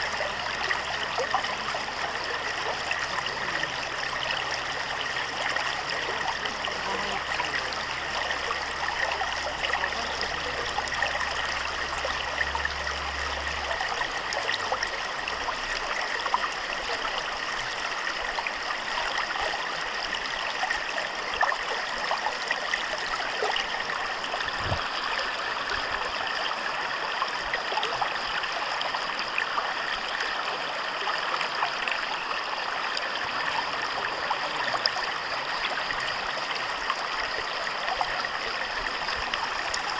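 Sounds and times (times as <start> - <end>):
stream water rushing and babbling: 0.0 - 39.9.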